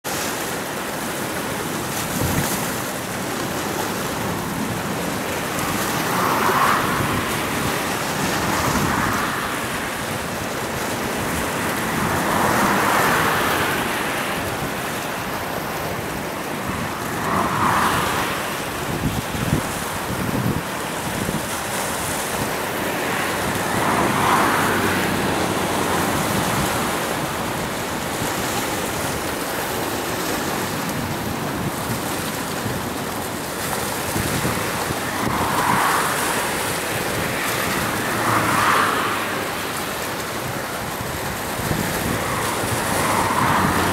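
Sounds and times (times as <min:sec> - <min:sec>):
choppy waves rushing: 0:00.0 - 0:43.9
wind buffeting microphone: 0:00.2 - 0:43.9.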